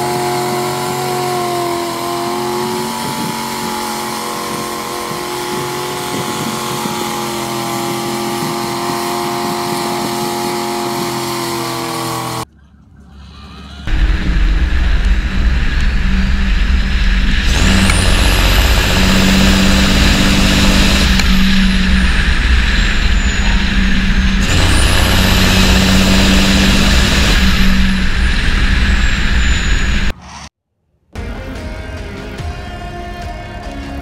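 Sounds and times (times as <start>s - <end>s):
large vehicle engine running: 0.0s - 12.5s, 13.9s - 30.2s
high engine whine: 0.0s - 13.0s, 13.9s - 30.5s.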